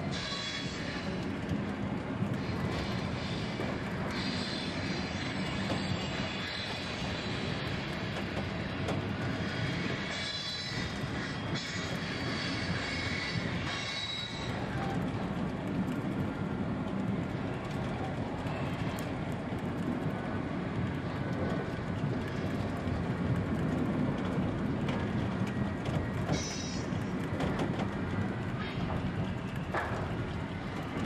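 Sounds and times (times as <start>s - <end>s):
model train wheels on rails: 0.0s - 31.0s.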